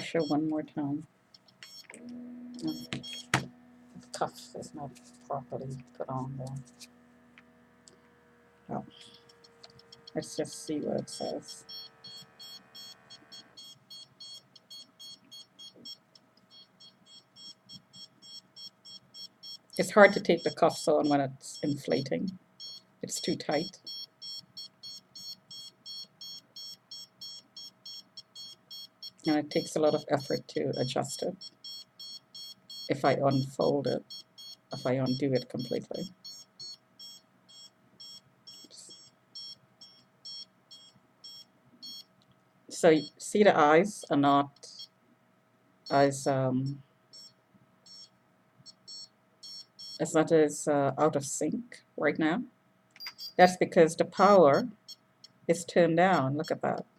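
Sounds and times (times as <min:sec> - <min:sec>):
electronic alarm beeping: 0:00.0 - 0:00.5, 0:01.4 - 0:42.1, 0:43.0 - 0:43.2, 0:47.1 - 0:48.1, 0:48.7 - 0:50.0, 0:53.0 - 0:53.5, 0:54.2 - 0:55.4, 0:56.1 - 0:56.9
faint steady hum: 0:00.0 - 0:56.9.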